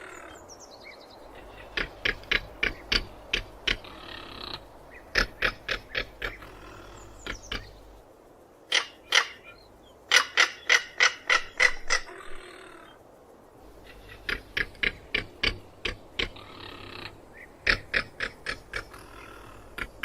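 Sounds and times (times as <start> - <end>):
bird grating calls: 0.0 - 0.5, 1.2 - 8.0, 8.7 - 13.0, 13.7 - 20.0
bird rattling calls: 1.2 - 20.0.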